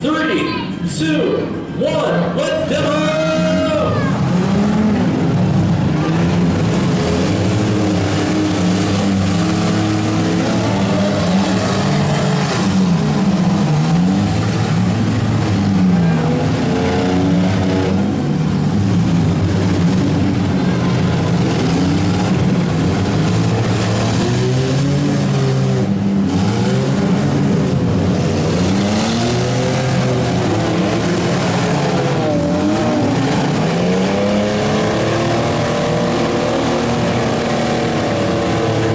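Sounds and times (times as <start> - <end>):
vehicle engines revving: 0.0 - 38.9.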